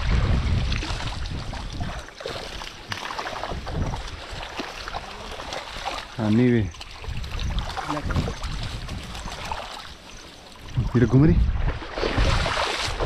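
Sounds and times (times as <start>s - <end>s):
water rushing through a net: 0.0s - 10.8s, 11.7s - 13.0s.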